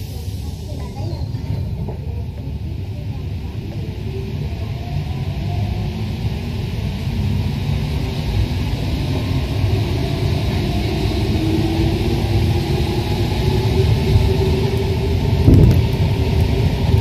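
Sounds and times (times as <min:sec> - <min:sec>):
train rumbling through tunnel: 0:00.0 - 0:17.0.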